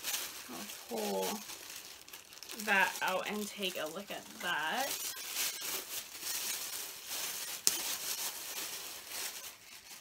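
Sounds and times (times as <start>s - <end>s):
handbag rustling and crinkling: 0.0s - 10.0s.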